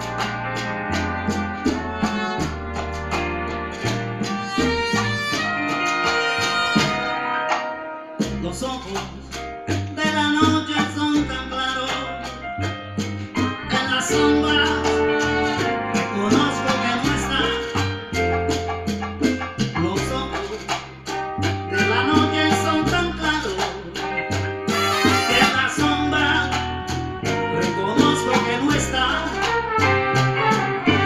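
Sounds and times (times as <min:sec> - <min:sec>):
live band over loudspeakers: 0:00.0 - 0:31.0.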